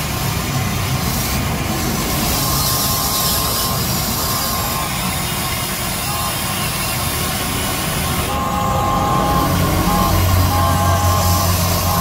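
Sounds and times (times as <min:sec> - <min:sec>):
toy excavator motor: 0:00.0 - 0:12.0.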